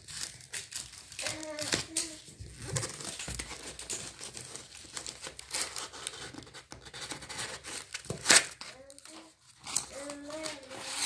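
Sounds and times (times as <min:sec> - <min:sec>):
cardboard crinkling: 0:00.0 - 0:11.0
packing tape tearing: 0:00.0 - 0:11.0.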